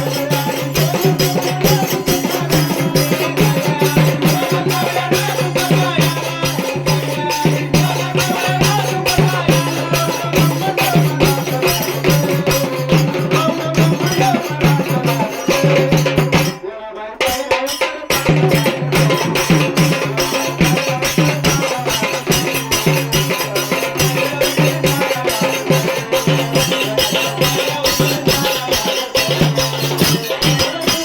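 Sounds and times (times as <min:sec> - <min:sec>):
fast even percussion beat: 0:00.0 - 0:31.0.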